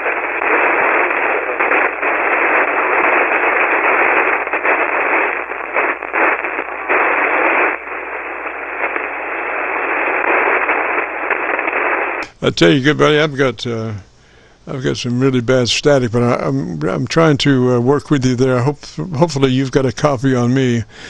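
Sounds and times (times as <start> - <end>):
shortwave radio static hiss: 0.0 - 21.0.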